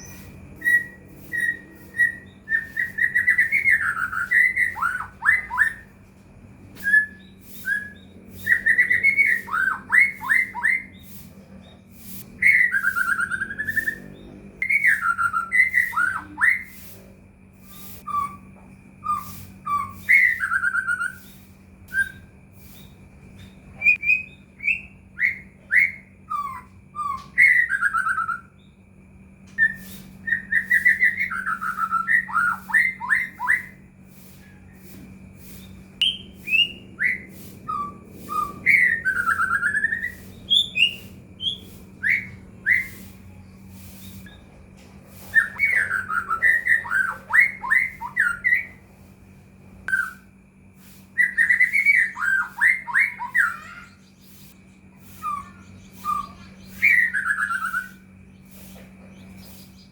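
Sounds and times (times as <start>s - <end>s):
bird singing whistled phrases: 0.0s - 5.9s, 6.8s - 17.0s, 17.6s - 28.7s, 29.6s - 33.8s, 35.6s - 44.4s, 45.2s - 48.8s, 49.9s - 50.4s, 51.2s - 59.9s
faint low hum: 0.0s - 59.9s.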